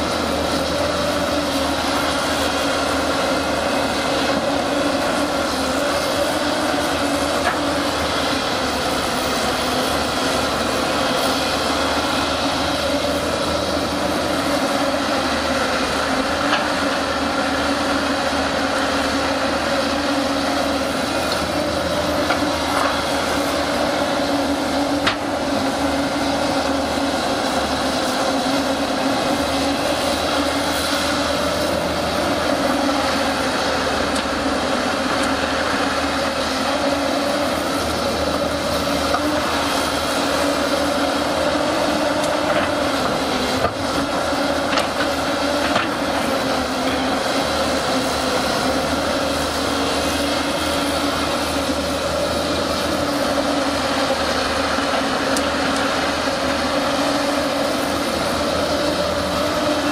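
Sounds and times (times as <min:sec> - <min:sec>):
excavator engine and hydraulics droning: 0:00.0 - 0:59.9.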